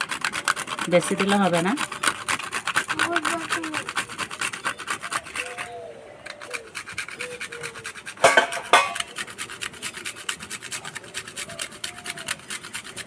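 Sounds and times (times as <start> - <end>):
nutmeg rasping on a grater: 0.0 - 13.0.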